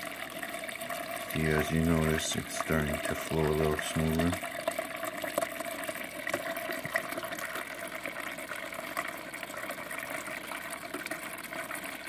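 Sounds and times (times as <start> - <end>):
water running into a bowl: 0.0 - 12.0.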